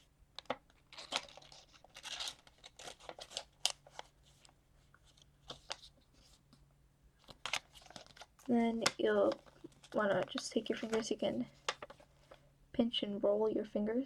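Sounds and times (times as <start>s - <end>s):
paper rustling and crinkling: 0.4s - 6.6s, 7.2s - 12.4s.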